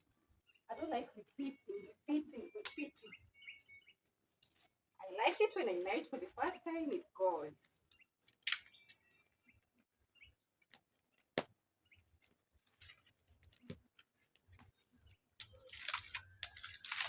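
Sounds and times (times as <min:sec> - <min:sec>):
fire clicks and snaps: 0:00.0 - 0:17.0.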